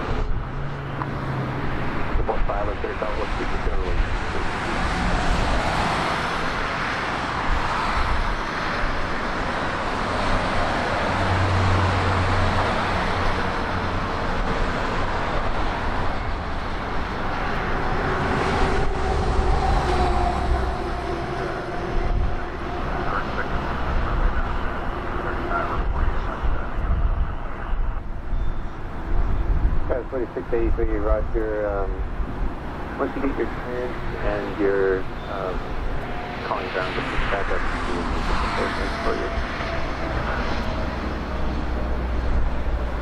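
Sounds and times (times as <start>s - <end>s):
faint steady tones: 0.0s - 4.9s, 13.2s - 43.0s
jet engine rushing: 0.0s - 28.3s, 29.0s - 43.0s.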